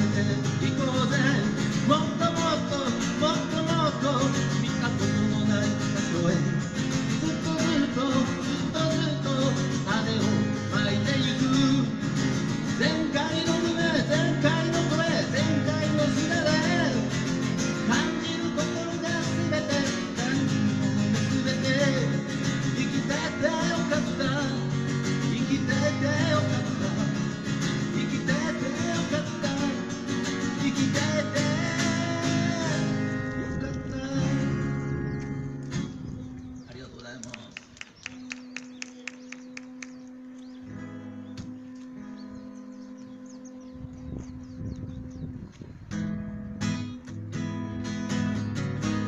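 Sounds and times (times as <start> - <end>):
acoustic guitar strumming: 0.0 - 36.7, 37.9 - 49.0.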